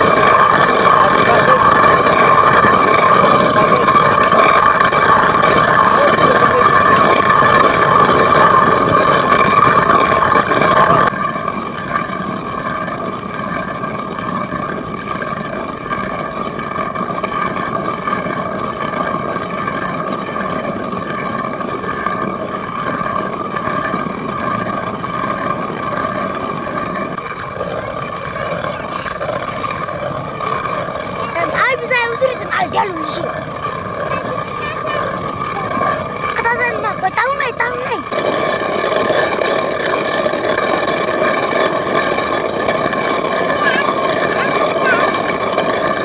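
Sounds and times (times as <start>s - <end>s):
stone quern grinding: 0.0s - 46.0s.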